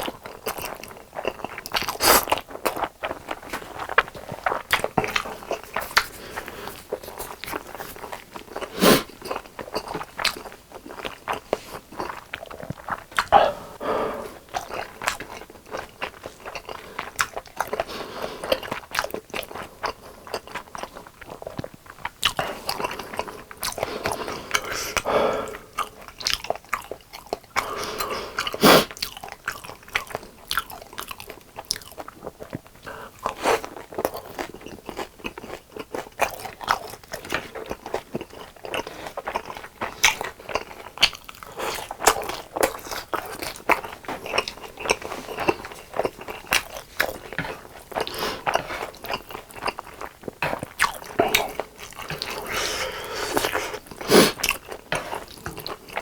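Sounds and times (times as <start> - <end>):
crunchy chewing of fried chicken: 0.0 - 56.0.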